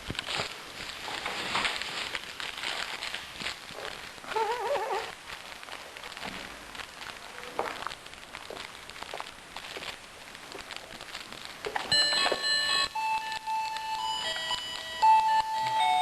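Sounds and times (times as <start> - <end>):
small clicks and rustles: 0.0 - 15.5.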